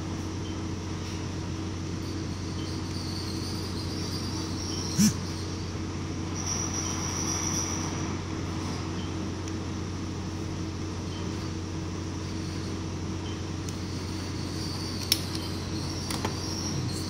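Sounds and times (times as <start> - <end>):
faint high whine: 0.0 - 17.0
room tone hum and hiss: 0.0 - 17.0.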